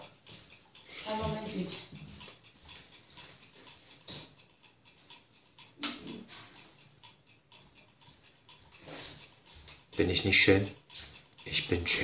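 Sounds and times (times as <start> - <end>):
egg timer ticking: 0.0 - 12.0.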